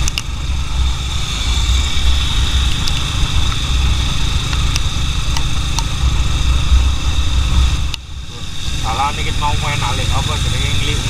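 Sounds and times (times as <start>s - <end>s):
motorcycle engine running: 0.0s - 11.0s
steady high hum: 0.0s - 11.0s
wind buffeting microphone: 0.0s - 11.0s.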